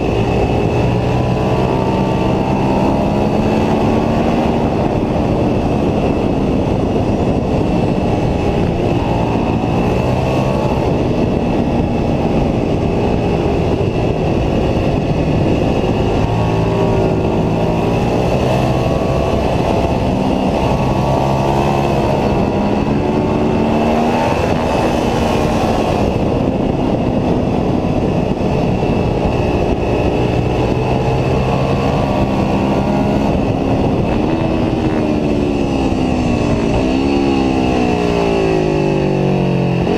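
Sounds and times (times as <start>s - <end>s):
motorcycle engine accelerating: 0.0s - 39.9s
steady rush of noise: 0.0s - 39.9s.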